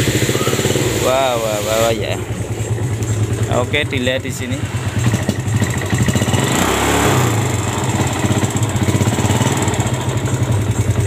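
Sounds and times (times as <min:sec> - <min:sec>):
engine knocking: 0:00.0 - 0:11.0
motorcycle engine idling: 0:00.0 - 0:11.0.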